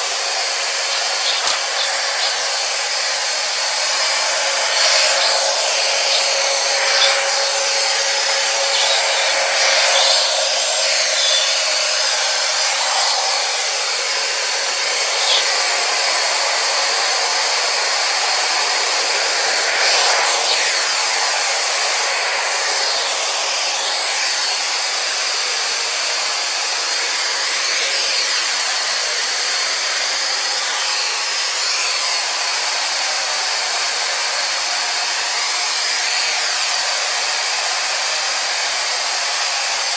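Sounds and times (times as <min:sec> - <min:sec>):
robot vacuum cleaner whirring: 0:00.0 - 0:39.9.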